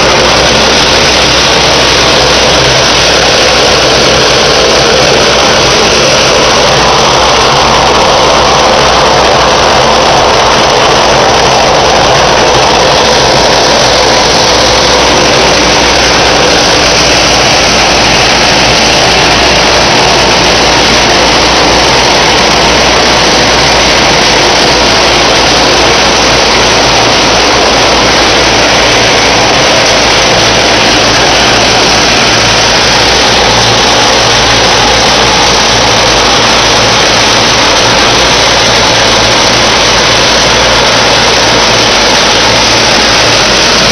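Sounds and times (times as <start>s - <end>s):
industrial machinery din: 0.0s - 43.9s
low hum: 0.0s - 43.9s.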